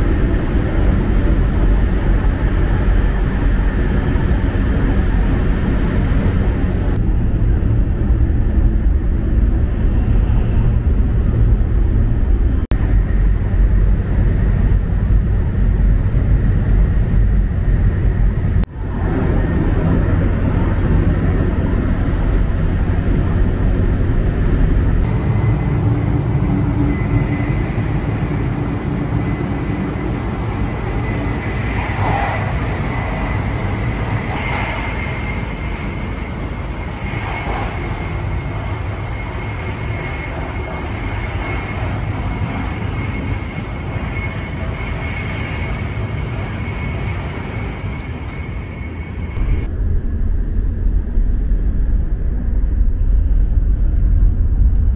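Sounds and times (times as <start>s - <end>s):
steady high whine: 0.0s - 54.9s
train interior low rumble: 0.0s - 54.9s.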